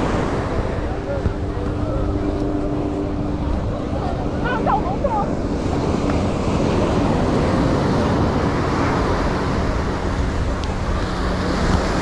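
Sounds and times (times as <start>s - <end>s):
surf: 0.0s - 12.0s
wind noise on microphone: 0.0s - 12.0s.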